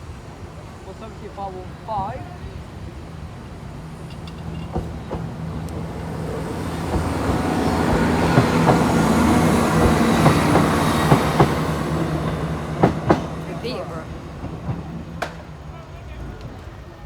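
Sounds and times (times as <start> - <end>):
train passing with rushing noise: 0.0 - 17.0
wheels clicking over rail joints: 1.0 - 17.0.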